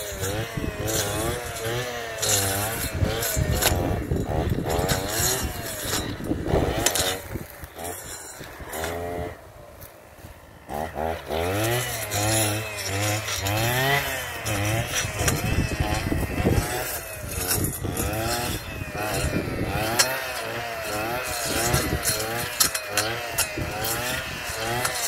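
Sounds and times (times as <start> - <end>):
brushcutter engine revving: 0.0 - 25.0.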